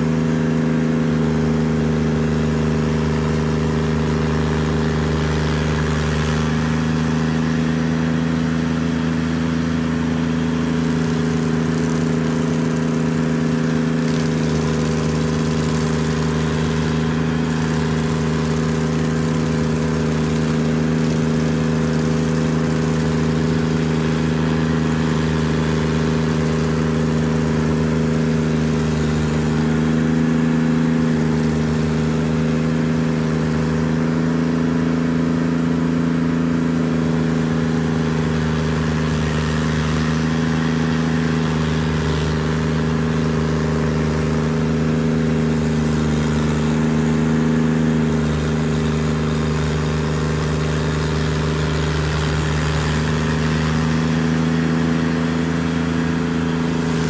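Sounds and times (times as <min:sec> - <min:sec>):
cutter wheel grinding stump: 0:00.0 - 0:57.0
stump grinder engine running: 0:00.0 - 0:57.0.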